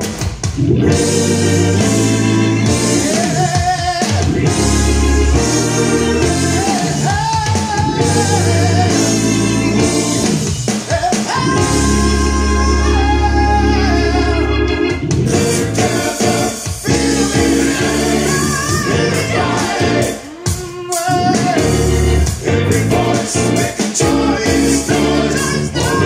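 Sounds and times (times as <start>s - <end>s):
song with organ drums and bass: 0.0s - 26.0s.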